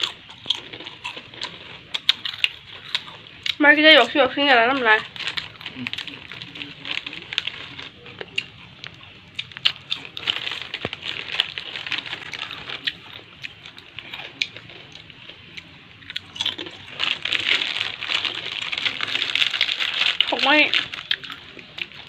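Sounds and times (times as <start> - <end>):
crunchy snack chewing: 0.0 - 3.6, 4.7 - 22.0.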